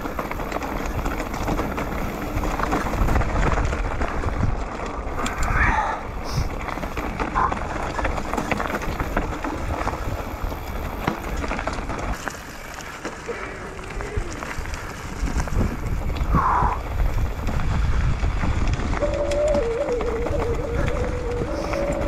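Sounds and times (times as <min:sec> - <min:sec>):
bike rattling: 0:00.0 - 0:22.0
bike tyres rolling over stones: 0:00.0 - 0:22.0
wind on microphone: 0:00.9 - 0:11.0, 0:13.8 - 0:22.0.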